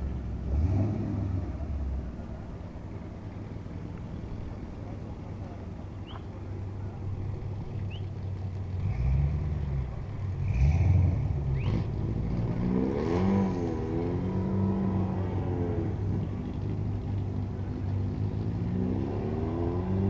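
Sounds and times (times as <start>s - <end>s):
car engine rumbling and revving: 0.0s - 20.0s.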